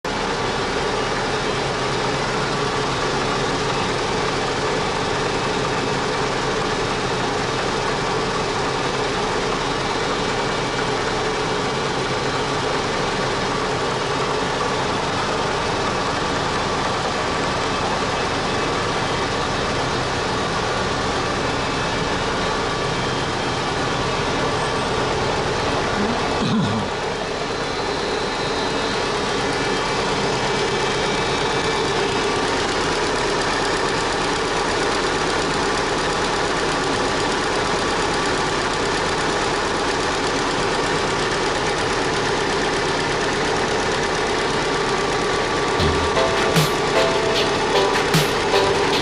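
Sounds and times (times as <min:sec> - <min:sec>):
helicopter engine running: 0:00.1 - 0:49.0.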